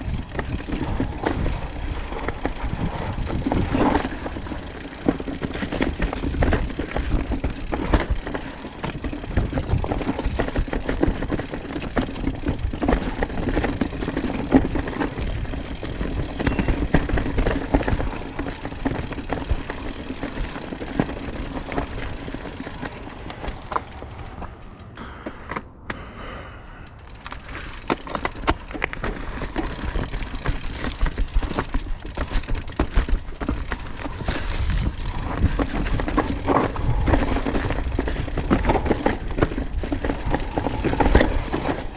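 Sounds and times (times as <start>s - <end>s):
bike tyres clattering on rocks: 0.0s - 24.6s, 27.0s - 41.9s
bike chain and frame rattling: 0.0s - 25.0s, 26.7s - 41.9s.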